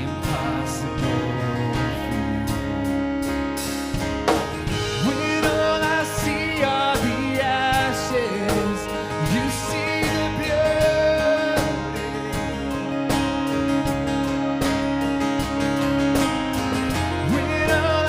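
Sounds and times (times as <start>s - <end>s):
held chord: 0.0s - 18.0s
sliding melody line: 0.0s - 18.0s
strummed acoustic guitar: 0.0s - 18.0s.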